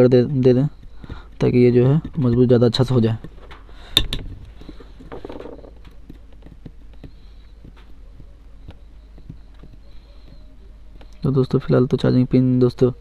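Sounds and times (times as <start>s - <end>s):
steady low electrical hum: 0.0s - 13.0s
small clicks and taps: 0.1s - 11.3s.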